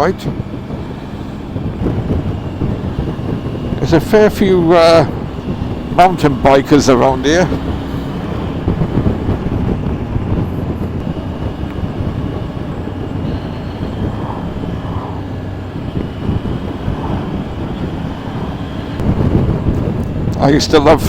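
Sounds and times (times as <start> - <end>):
motorcycle engine drone: 0.0 - 21.0
road noise: 0.0 - 21.0
wind noise: 0.0 - 21.0.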